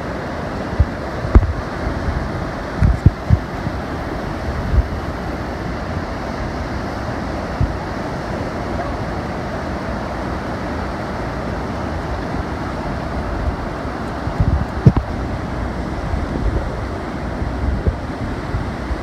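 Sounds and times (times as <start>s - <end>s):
waves breaking on sandy beach: 0.0s - 19.0s
wind buffeting microphone: 0.0s - 19.0s.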